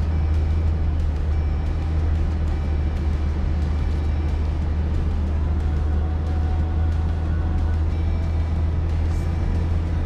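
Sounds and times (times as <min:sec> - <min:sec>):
engine and tyres droning: 0:00.0 - 0:10.0.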